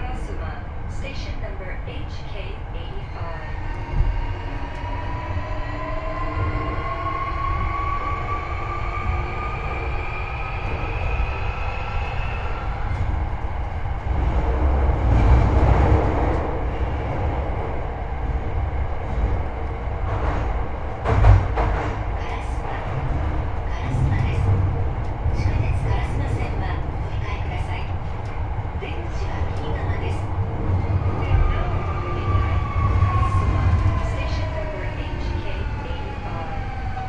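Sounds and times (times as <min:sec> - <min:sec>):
train wheels rumbling on track: 0:00.0 - 0:37.0
train motor whining: 0:02.8 - 0:37.0.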